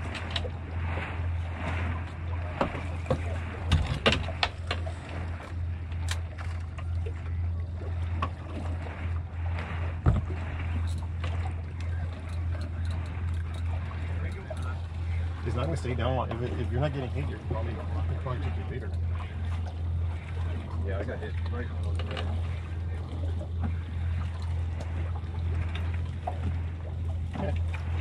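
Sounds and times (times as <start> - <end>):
low boat hum: 0.0 - 28.0
water and wind noise: 0.0 - 28.0.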